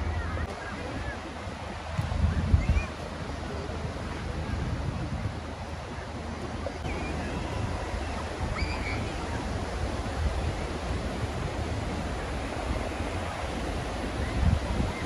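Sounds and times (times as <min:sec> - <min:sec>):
waves hissing: 0:00.0 - 0:15.0
wind buffeting microphone: 0:00.0 - 0:15.0.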